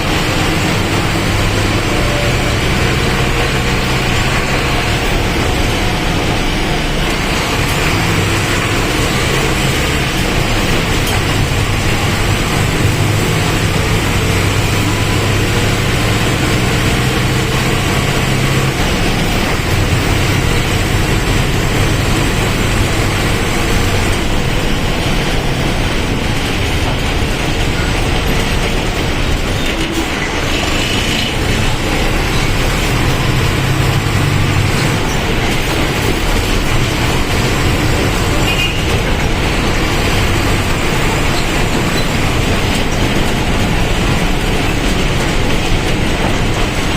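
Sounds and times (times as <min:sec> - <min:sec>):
bus diesel engine running: 0:00.0 - 0:46.9
road and body rumble: 0:00.0 - 0:46.9.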